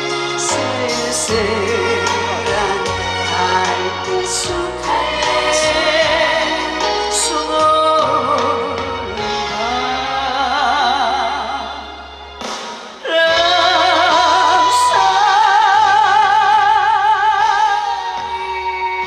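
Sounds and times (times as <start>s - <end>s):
woman singing a ballad: 0.0s - 11.9s, 13.0s - 19.0s
backing track: 0.0s - 19.0s.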